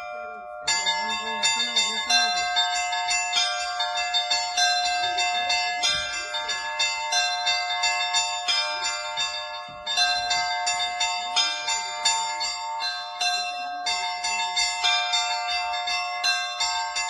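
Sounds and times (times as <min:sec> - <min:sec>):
high-pitched bells ringing: 0:00.0 - 0:17.0.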